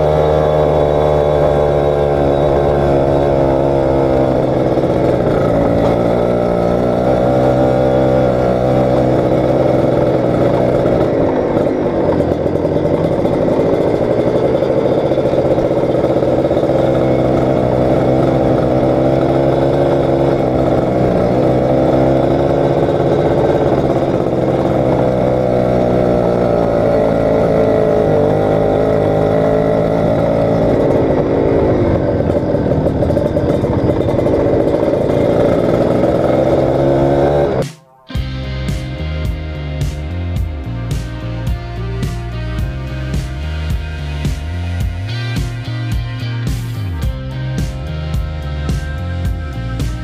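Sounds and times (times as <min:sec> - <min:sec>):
two-stroke motorcycle engine running: 0:00.0 - 0:50.0.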